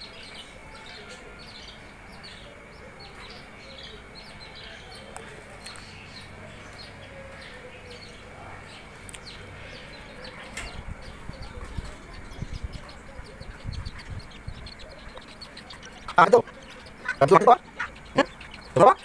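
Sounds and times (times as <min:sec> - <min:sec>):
budgies chirping: 0:00.0 - 0:19.0.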